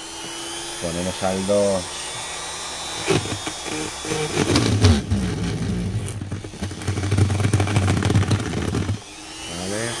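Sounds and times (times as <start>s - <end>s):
rotary tool motor running: 0.0s - 10.0s.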